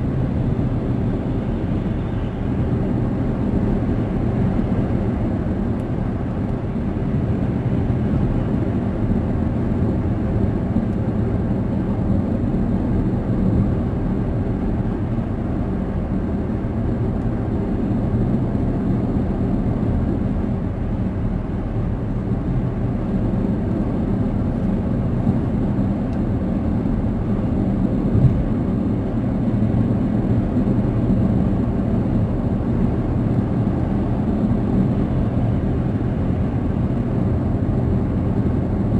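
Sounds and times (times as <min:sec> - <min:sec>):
car cabin road rumble: 0:00.0 - 0:38.9.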